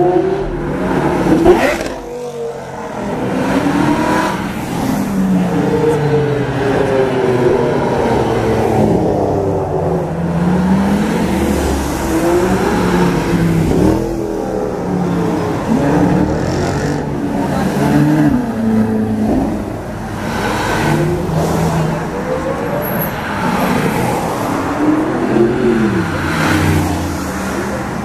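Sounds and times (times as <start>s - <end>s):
sports car engines revving past: 0.0s - 28.0s.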